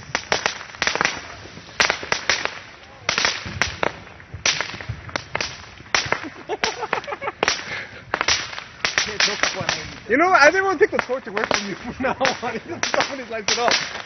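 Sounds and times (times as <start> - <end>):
fireworks cracking: 0.0 - 14.0.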